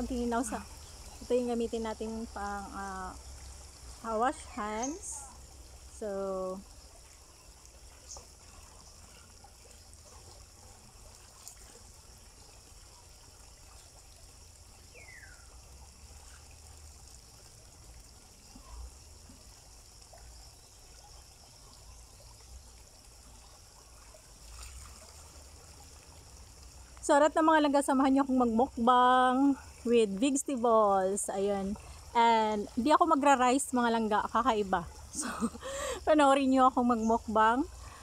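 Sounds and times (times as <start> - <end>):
low steady rumble: 0.0 - 38.0
water trickling and pouring: 0.0 - 38.0.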